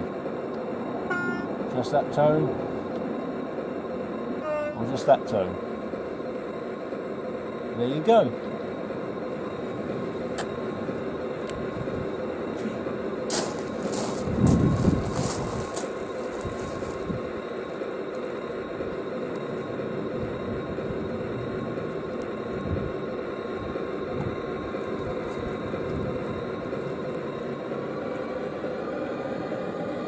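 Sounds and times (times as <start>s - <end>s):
model locomotive diesel engine sound: 0.0s - 30.0s.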